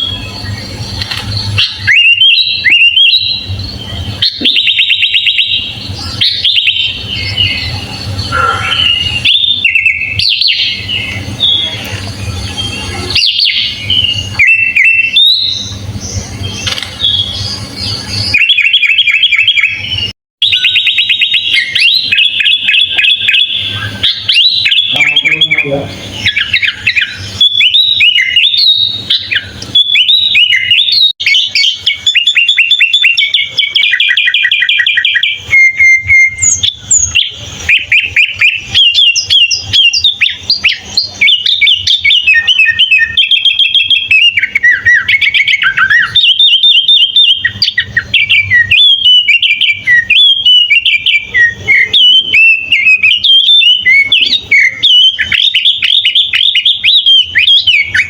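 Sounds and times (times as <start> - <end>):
bird singing trills and whistles: 0.0 - 58.0.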